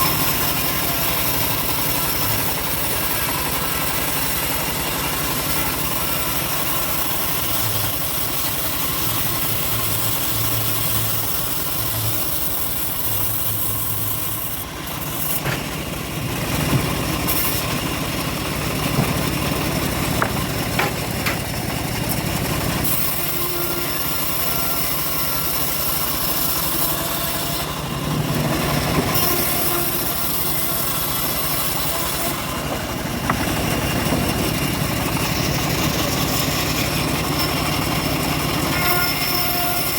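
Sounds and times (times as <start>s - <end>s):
engine-driven bandsaw cutting log: 0.0s - 39.9s.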